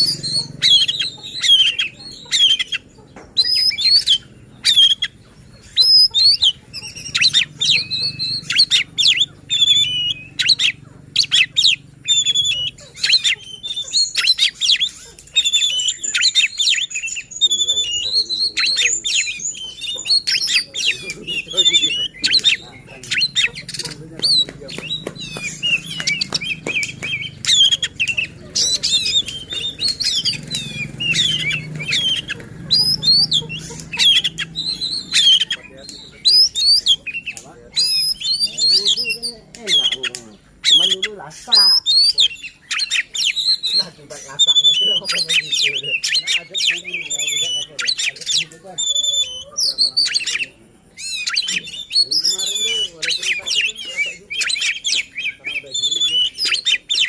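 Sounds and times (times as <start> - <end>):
bird clicking chatter: 0.0 - 57.0
songbird singing rapid whistles: 0.0 - 57.0.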